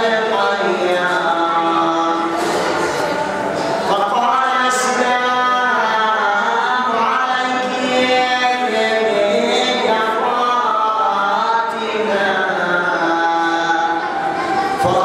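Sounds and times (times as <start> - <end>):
man and boys chanting: 0.0 - 15.0.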